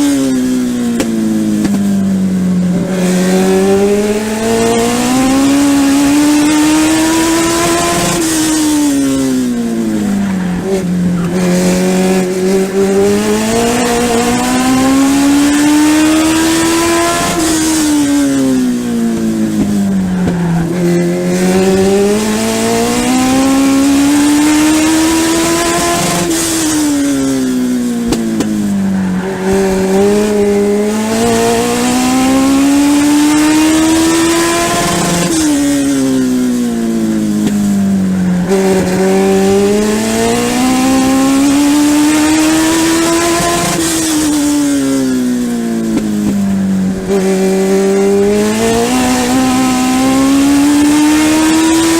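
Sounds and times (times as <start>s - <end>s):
race car engine accelerating: 0.0s - 51.9s.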